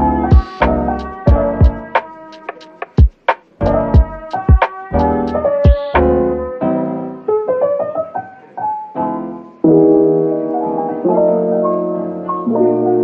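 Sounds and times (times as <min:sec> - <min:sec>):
piano instrumental: 0:00.0 - 0:13.0.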